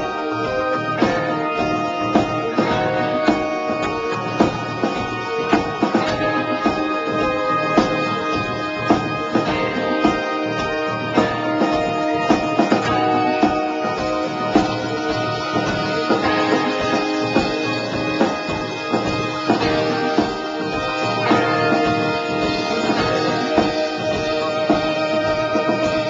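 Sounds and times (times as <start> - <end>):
held keyboard chords: 0.0 - 26.0
steady drum beat: 0.0 - 26.0.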